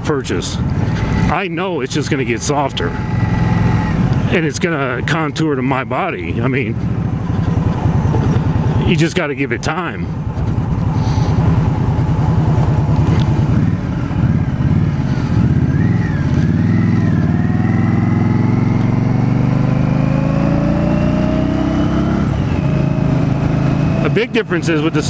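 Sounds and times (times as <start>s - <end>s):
motorcycle engine running: 0.3s - 25.0s.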